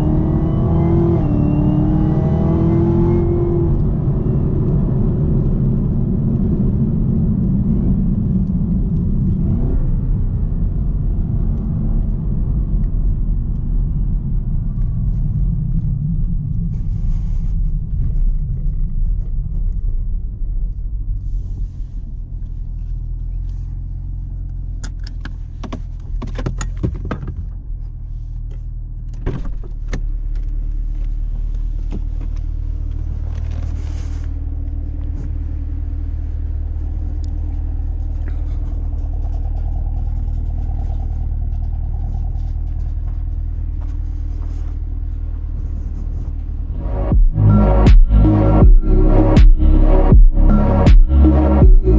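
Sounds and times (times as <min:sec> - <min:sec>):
car engine rumbling under load: 0:00.0 - 0:51.9.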